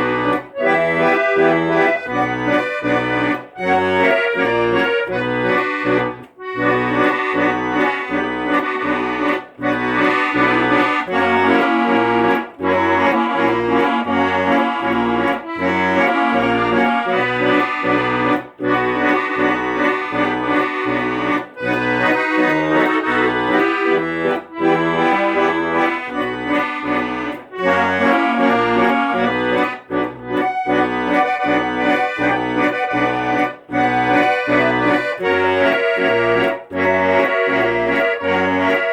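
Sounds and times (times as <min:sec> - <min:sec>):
accordion playing: 0:00.0 - 0:38.9.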